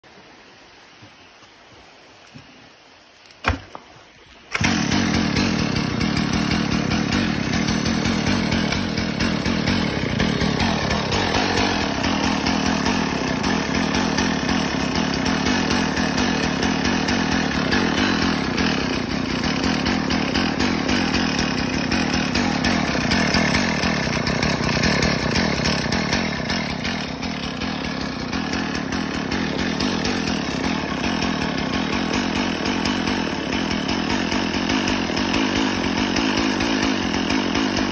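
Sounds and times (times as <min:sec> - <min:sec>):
chainsaw engine running: 0:04.5 - 0:37.9.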